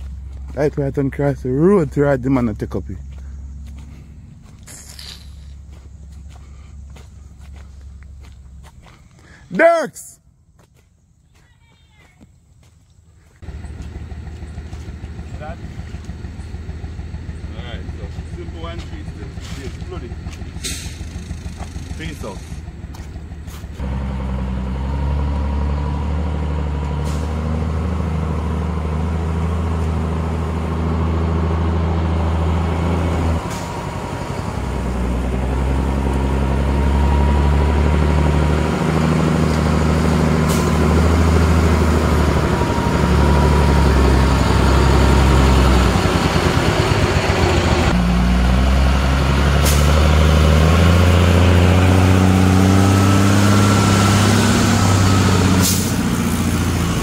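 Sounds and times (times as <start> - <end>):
heavy truck engine running: 0.0 - 9.4, 13.2 - 57.0.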